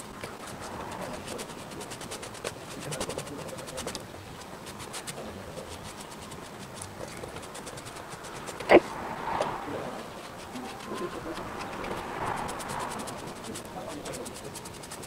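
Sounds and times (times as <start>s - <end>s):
cloth rubbing over paper: 0.0s - 15.0s.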